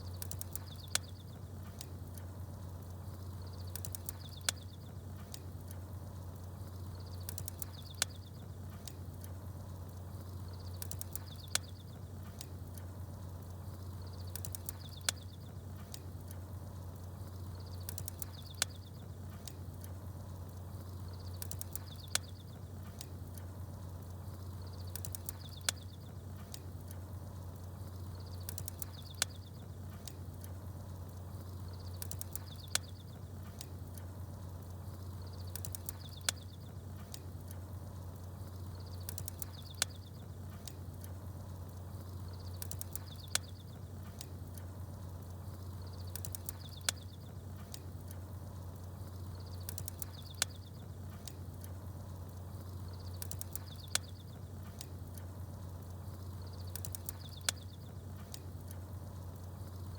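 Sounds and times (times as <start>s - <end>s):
fire crackling: 0.0s - 59.9s
small birds chirping: 0.0s - 59.9s
steady low hum: 0.0s - 59.9s.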